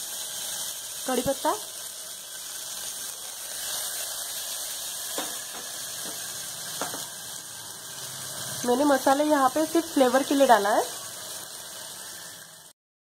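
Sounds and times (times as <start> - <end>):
food sizzling in hot oil: 0.0 - 12.8.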